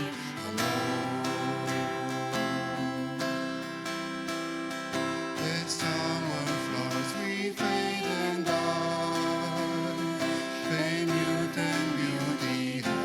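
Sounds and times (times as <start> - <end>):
singing a hymn: 0.0 - 4.1, 4.9 - 13.0
acoustic guitar and band playing: 0.0 - 13.0.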